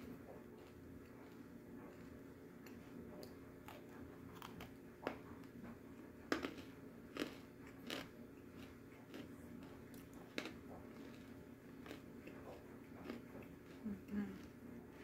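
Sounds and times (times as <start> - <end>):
person chewing crunchy clay: 0.5 - 5.6, 6.3 - 15.0.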